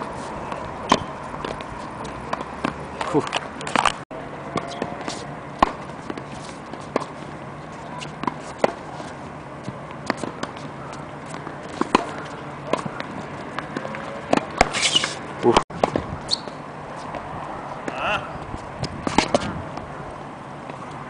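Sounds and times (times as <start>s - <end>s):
steady outdoor hiss: 0.0s - 21.0s
tennis balls struck with racquets: 0.4s - 19.9s.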